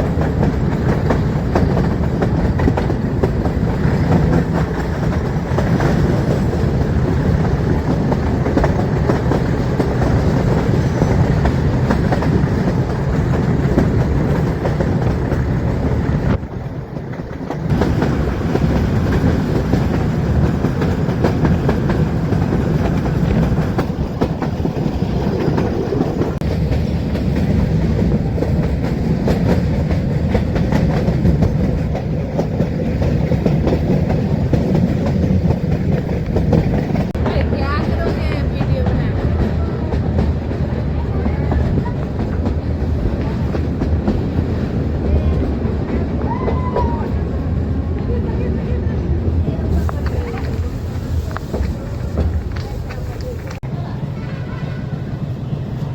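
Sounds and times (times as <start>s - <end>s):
wheels clacking over rail joints: 0.0s - 53.8s.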